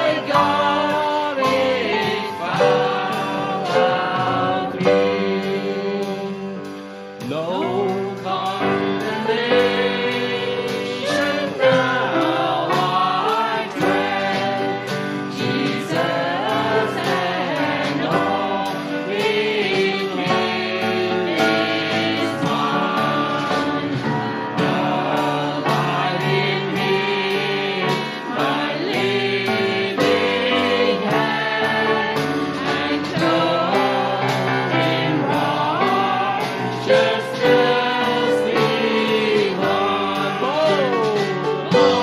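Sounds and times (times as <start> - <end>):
band accompaniment: 0.0 - 42.0
drums keeping a steady beat: 0.0 - 42.0
voices singing a hymn: 0.0 - 42.0.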